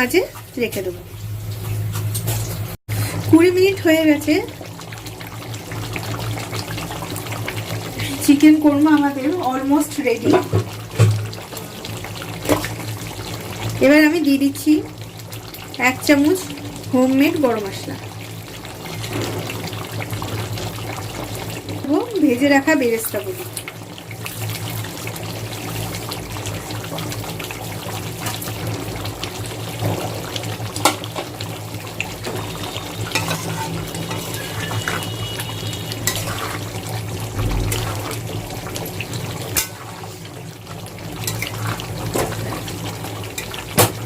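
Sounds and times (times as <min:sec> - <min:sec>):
gravy bubbling and sizzling: 0:00.0 - 0:44.0.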